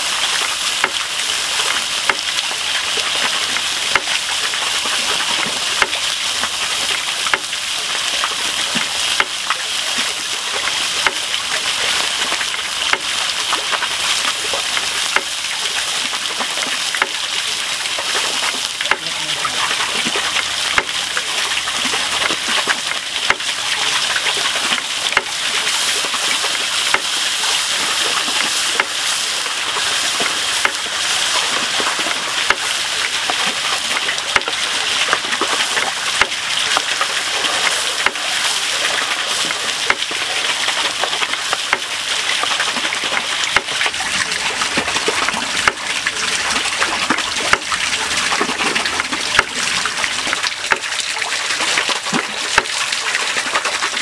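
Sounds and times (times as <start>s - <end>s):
sauce sizzling in a frying pan: 0.0s - 44.7s.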